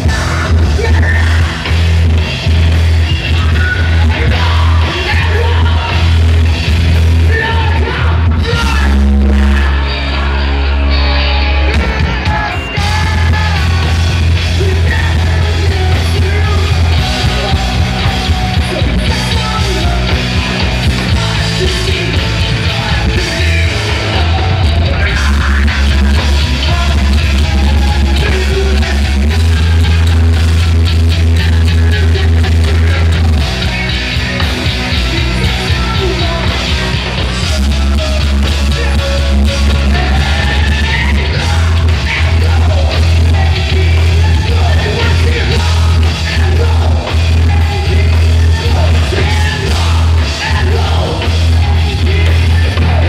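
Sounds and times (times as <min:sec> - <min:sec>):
bass guitar: 0:00.0 - 0:53.0
drums: 0:00.0 - 0:53.0
electric guitars: 0:00.0 - 0:53.0
person singing: 0:00.0 - 0:53.0.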